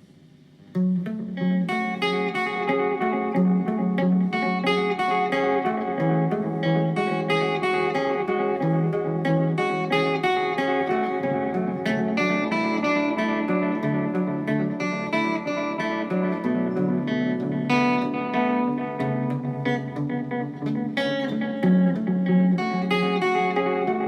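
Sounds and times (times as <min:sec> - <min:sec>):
electric guitar through tape echo: 0:00.0 - 0:24.0.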